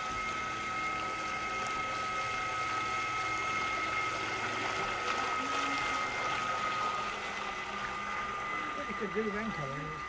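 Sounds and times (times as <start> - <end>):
model boat motor whining: 0.0 - 10.0.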